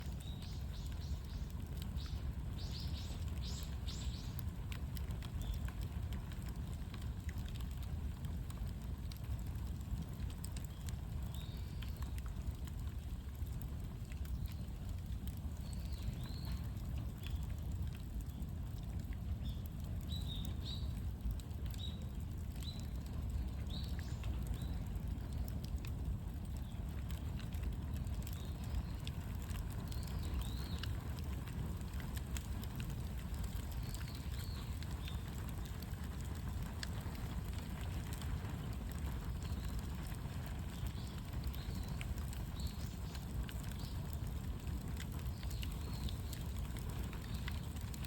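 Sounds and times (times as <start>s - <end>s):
small birds chirping: 0.0s - 6.8s, 10.5s - 18.5s, 19.3s - 48.0s
bonfire crackling and popping: 0.0s - 48.0s.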